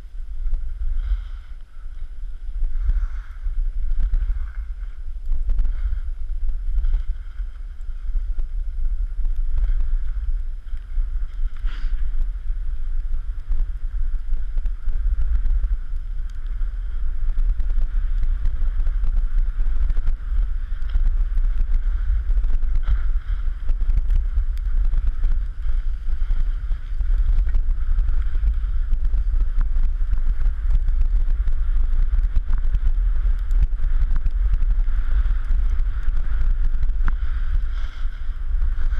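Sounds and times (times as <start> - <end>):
blades sliding over snow: 0.0 - 38.9
wind buffeting microphone: 0.0 - 38.9.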